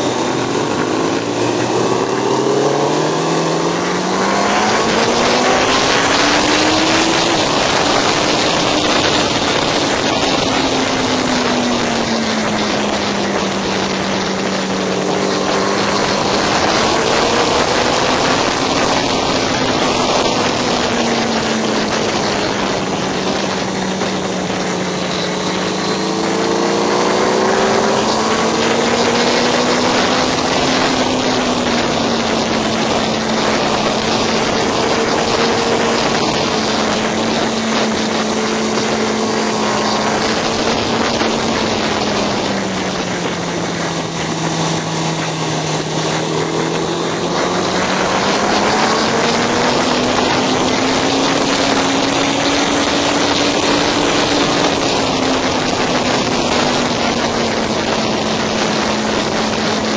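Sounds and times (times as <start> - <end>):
motorcycle engine racing: 0.0 - 59.9
wind on microphone: 0.0 - 59.9.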